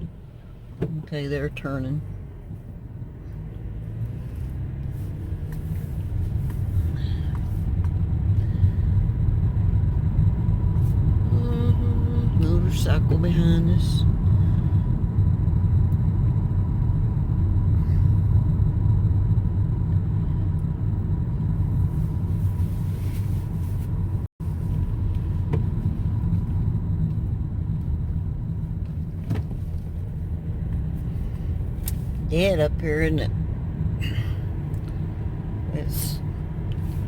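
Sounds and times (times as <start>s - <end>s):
car road and engine rumble: 0.0s - 37.0s
faint steady whine: 5.7s - 37.0s.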